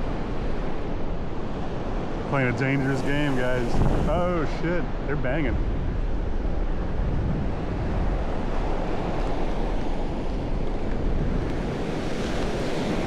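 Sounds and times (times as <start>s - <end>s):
ocean surf: 0.0s - 13.0s
wind noise on microphone: 0.0s - 13.0s.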